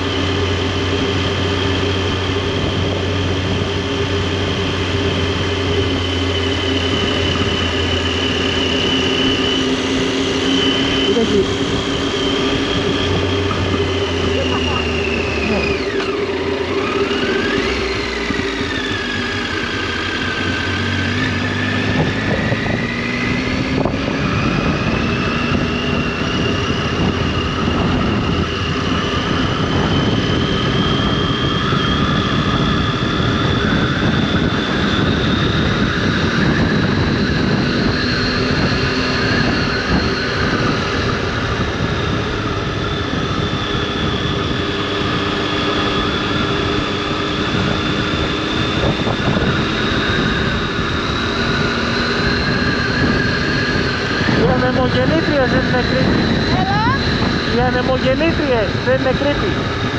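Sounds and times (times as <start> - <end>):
motorcycle engine revving: 0.0 - 59.9
road and wind noise: 0.0 - 59.9.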